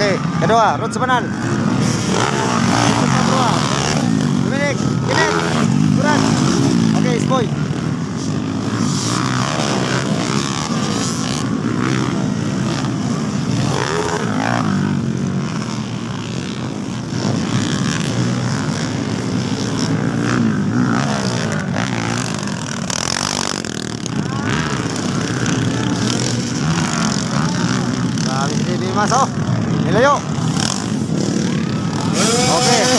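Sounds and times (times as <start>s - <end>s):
dirt bike engines revving: 0.0s - 32.9s.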